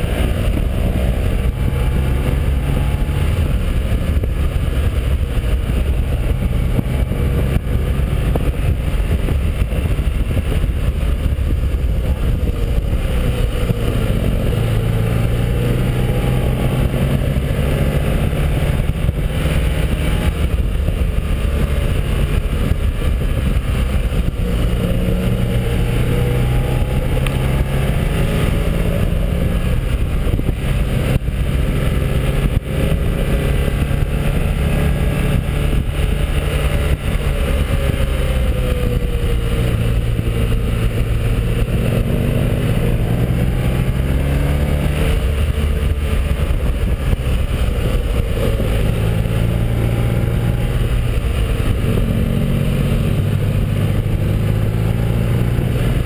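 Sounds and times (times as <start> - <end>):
motorcycle engine running: 0.0 - 56.0
wind on microphone: 0.0 - 56.0.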